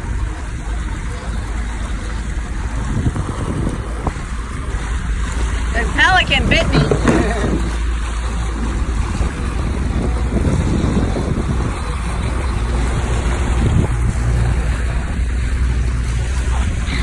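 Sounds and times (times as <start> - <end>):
boat wake rushing: 0.0 - 17.0
outboard motor running: 0.0 - 17.0
wind buffeting microphone: 0.0 - 17.0.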